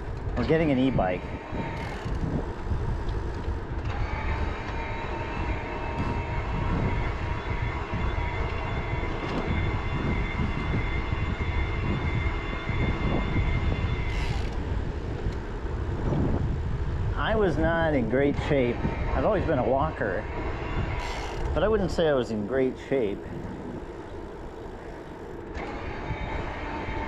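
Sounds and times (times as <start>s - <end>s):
steady high whine: 0.0s - 27.0s
wind buffeting microphone: 0.0s - 27.0s.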